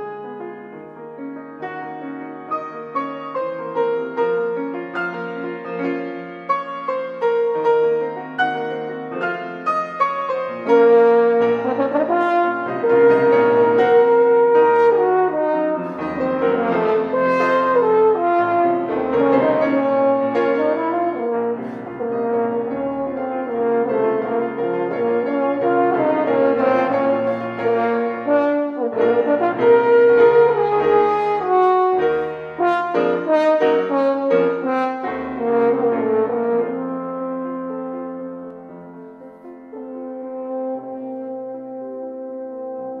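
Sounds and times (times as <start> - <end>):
grand piano accompaniment: 0.0 - 43.0
french horn melody: 1.7 - 43.0.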